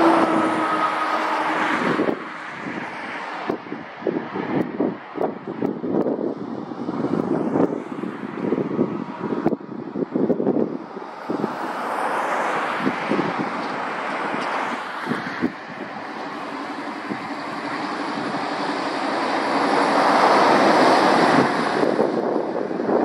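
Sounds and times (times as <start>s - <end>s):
road traffic passing: 0.0s - 23.0s
wind buffeting microphone: 0.0s - 23.0s.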